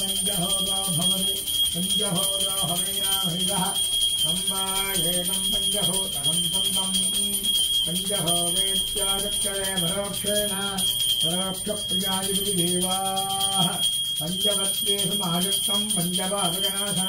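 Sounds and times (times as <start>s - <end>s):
brass hand bell ringing: 0.0s - 17.0s.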